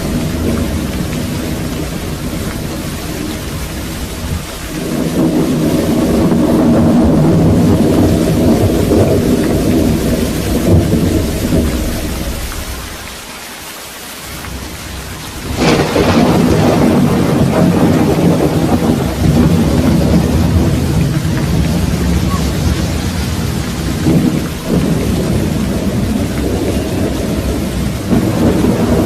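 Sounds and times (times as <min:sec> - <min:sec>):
sharp thunderclap: 0:00.0 - 0:13.0, 0:14.4 - 0:29.0
thunder rumbling: 0:00.0 - 0:13.4, 0:14.2 - 0:29.0
steady rain: 0:00.0 - 0:29.0.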